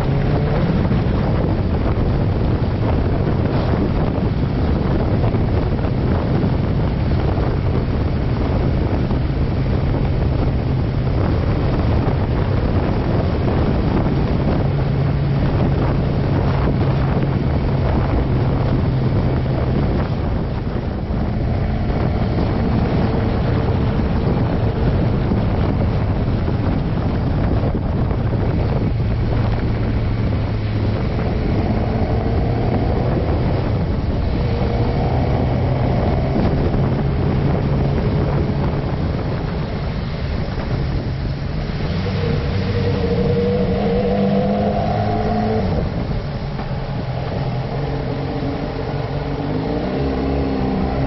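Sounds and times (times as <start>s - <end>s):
wind rushing on microphone: 0.0s - 51.0s.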